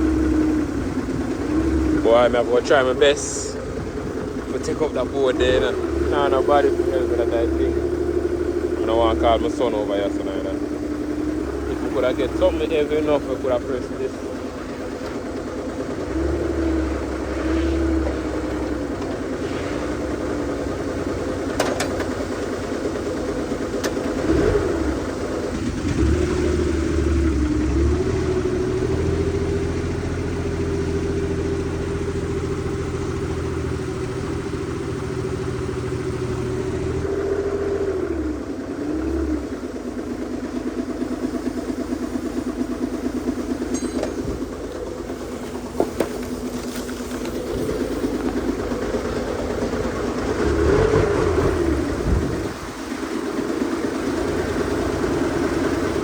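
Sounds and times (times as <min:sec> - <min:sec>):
engine revving and idling: 0:00.0 - 0:56.0.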